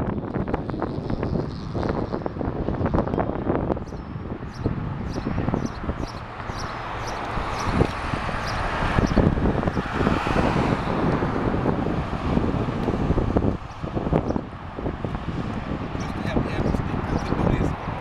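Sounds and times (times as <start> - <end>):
wind buffeting microphone: 0.0 - 18.0
car passing: 0.6 - 18.0.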